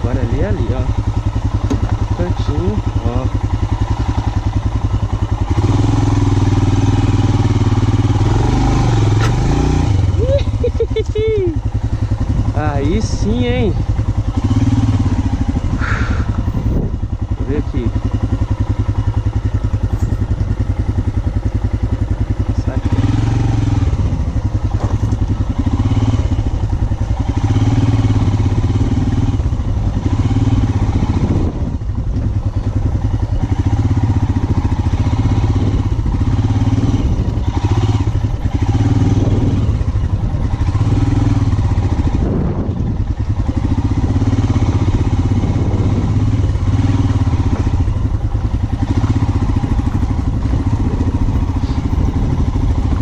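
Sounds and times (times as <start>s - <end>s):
motorcycle engine running under load: 0.0s - 53.0s.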